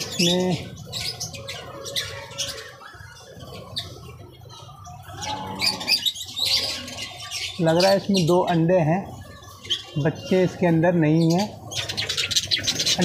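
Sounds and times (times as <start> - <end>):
lovebirds chirping and squawking: 0.0 - 13.0.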